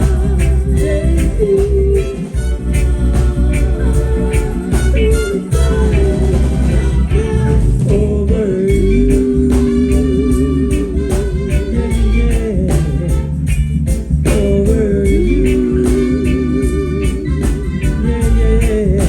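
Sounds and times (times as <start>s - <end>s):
live reggae band: 0.0s - 19.0s.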